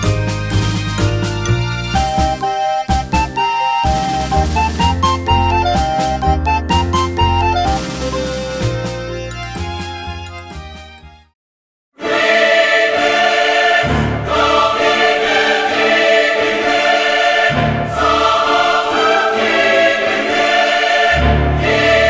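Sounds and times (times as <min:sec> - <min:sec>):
choir and orchestra music: 0:00.0 - 0:10.4, 0:12.0 - 0:22.0.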